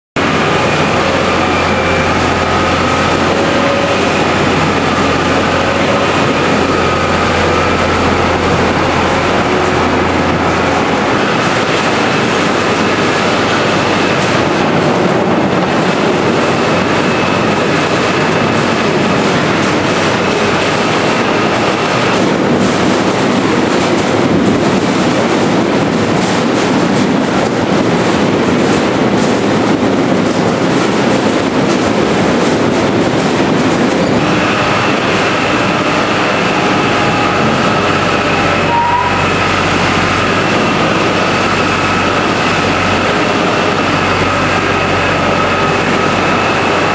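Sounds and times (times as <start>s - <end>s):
farm machinery rattling: 0.2s - 46.9s
low engine hum: 0.2s - 46.9s.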